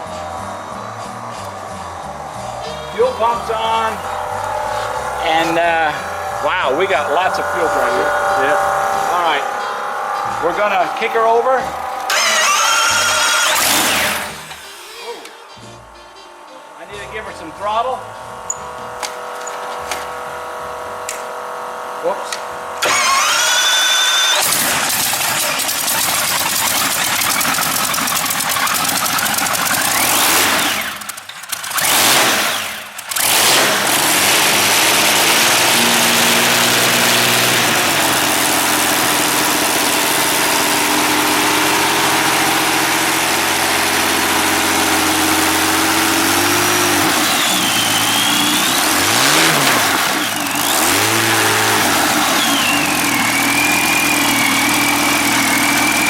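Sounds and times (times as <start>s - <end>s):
aircraft engine running loud: 0.0s - 15.3s, 25.1s - 56.0s.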